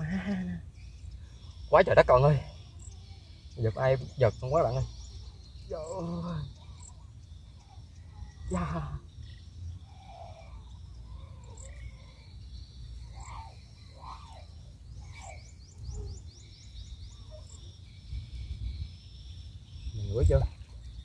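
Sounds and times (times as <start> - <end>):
bird calls: 0.0 - 21.0
insects buzzing: 0.0 - 21.0
rising bird chirps: 0.0 - 21.0
low wind rumble: 3.6 - 21.0.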